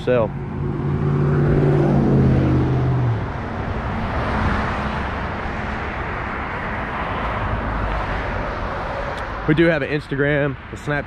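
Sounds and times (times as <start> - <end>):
traffic and tyre noise: 0.0 - 11.0
vehicle engine hum: 0.0 - 11.0.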